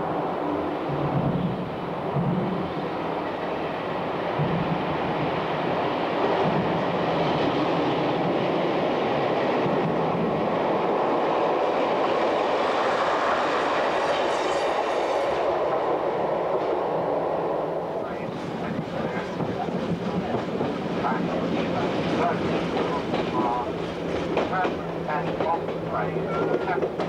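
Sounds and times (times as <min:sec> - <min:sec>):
diesel train engines: 0:00.0 - 0:27.0.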